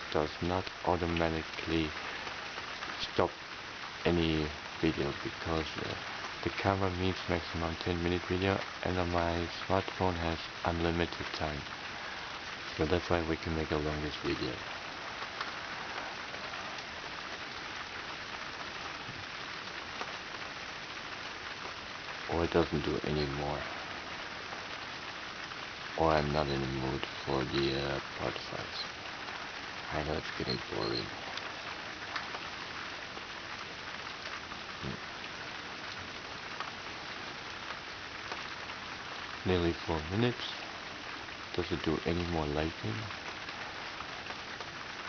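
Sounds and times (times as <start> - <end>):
steady rain pattering: 0.0 - 45.0.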